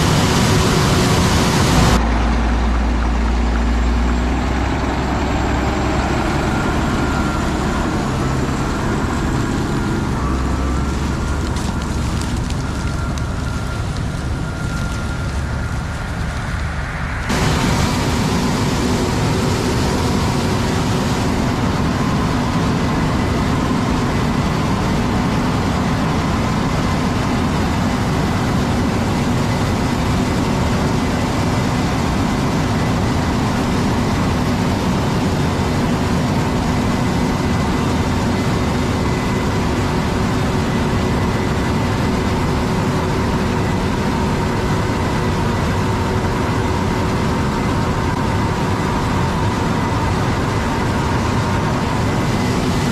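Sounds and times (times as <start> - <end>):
combine harvester engine drone: 0.0 - 52.9
steady whining tones: 0.0 - 52.9.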